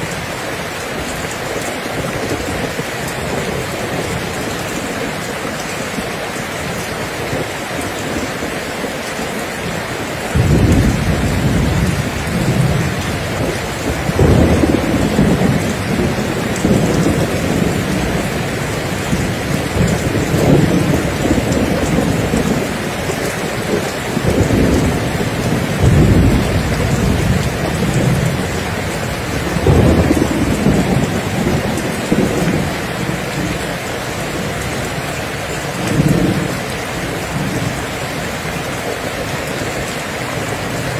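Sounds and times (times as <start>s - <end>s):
steady rain: 0.0s - 40.9s
thunder rumbling: 0.0s - 40.9s.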